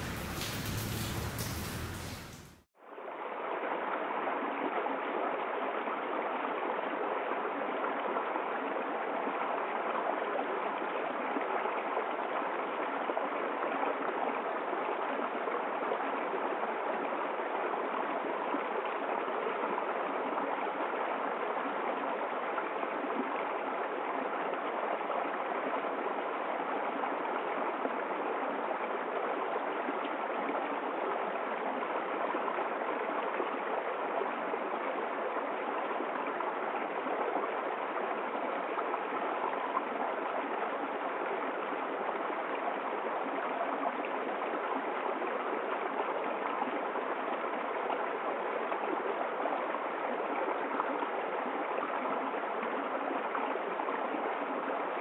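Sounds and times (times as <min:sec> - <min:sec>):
stream rushing over rocks: 0:00.0 - 0:02.7, 0:03.4 - 0:55.0.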